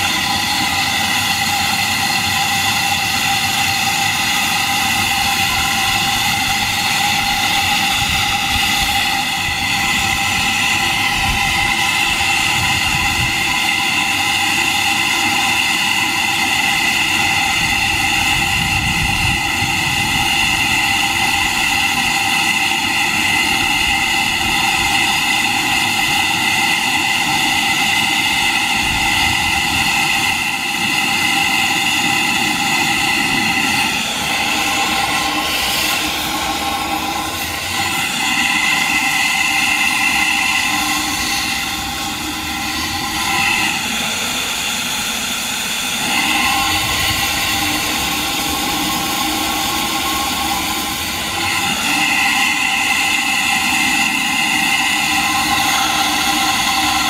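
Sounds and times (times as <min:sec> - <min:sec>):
steam hissing: 0:00.0 - 0:57.0.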